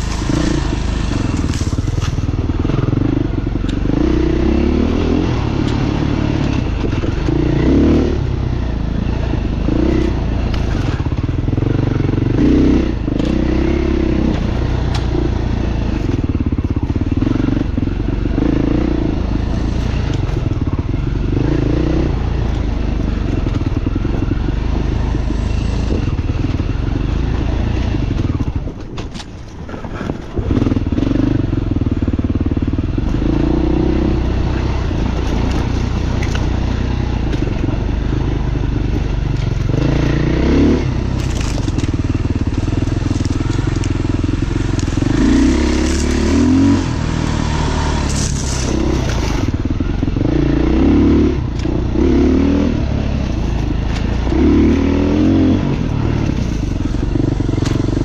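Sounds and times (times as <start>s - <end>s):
dirt bike engine revving: 0.0s - 28.8s, 30.3s - 58.0s.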